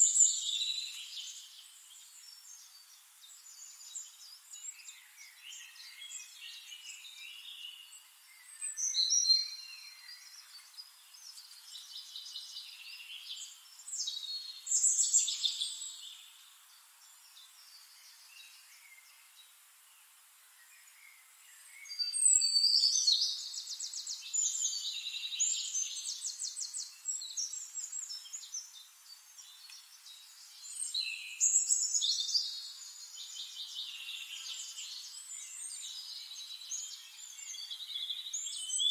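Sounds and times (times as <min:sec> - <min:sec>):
birds chirping and trilling: 0:00.0 - 0:38.9
faint hiss: 0:00.0 - 0:38.9.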